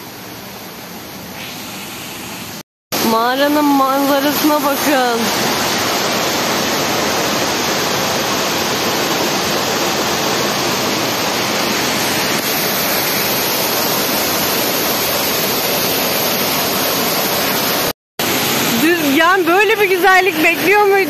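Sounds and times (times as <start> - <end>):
waterfall pouring and splashing: 1.5 - 21.0.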